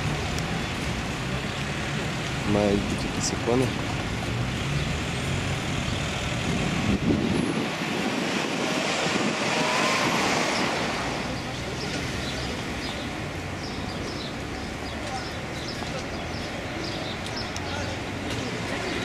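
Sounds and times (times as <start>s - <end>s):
motor vehicle passing: 0.8s - 19.0s.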